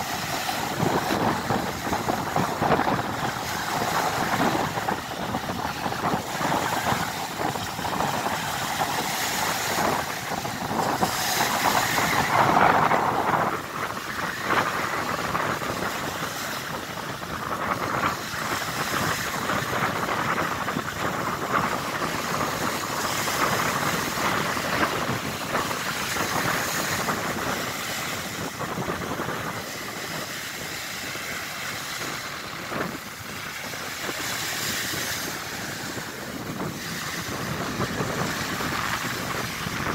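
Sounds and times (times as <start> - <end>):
waves breaking on beach: 0.0 - 39.9
wind buffeting microphone: 0.0 - 39.9.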